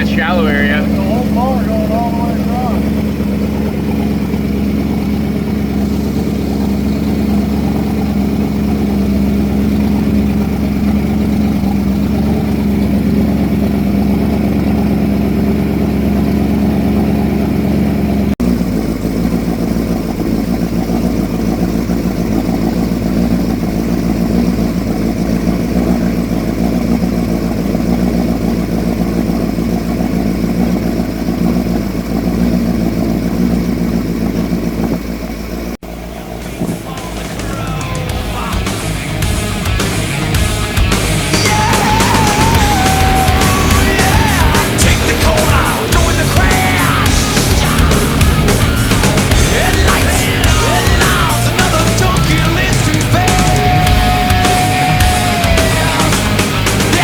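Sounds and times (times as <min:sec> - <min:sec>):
boat motor droning: 0:00.0 - 0:57.0.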